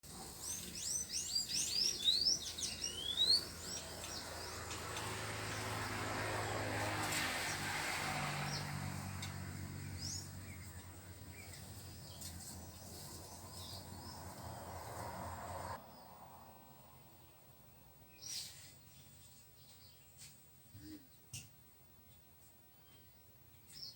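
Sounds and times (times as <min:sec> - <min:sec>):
small birds chirping: 0:00.1 - 0:16.1, 0:17.1 - 0:21.5, 0:22.1 - 0:23.9.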